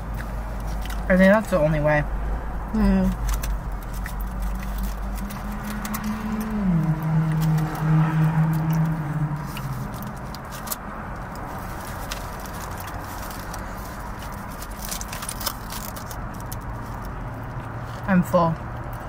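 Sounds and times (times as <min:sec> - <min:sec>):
chips crunching and foil crinkling: 0:00.0 - 0:01.5, 0:03.0 - 0:19.0
low car cabin hum: 0:00.0 - 0:19.0.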